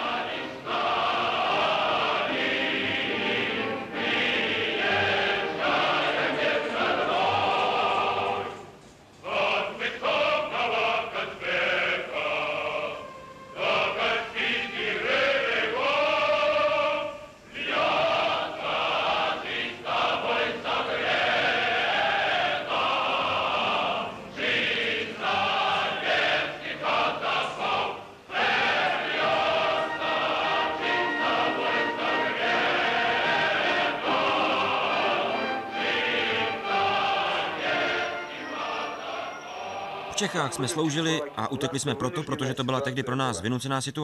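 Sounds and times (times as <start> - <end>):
choir singing: 0.0 - 42.8.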